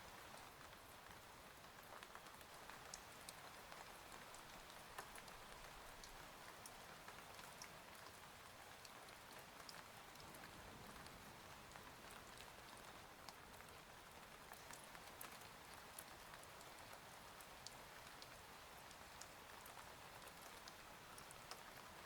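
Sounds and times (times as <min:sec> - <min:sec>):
faint rain: 0:00.0 - 0:22.0.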